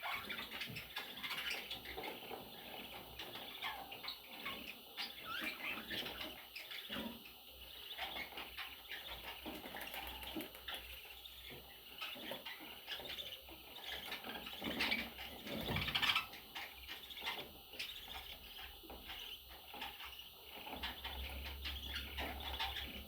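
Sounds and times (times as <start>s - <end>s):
budgerigars chirping and chattering: 0.0s - 23.0s.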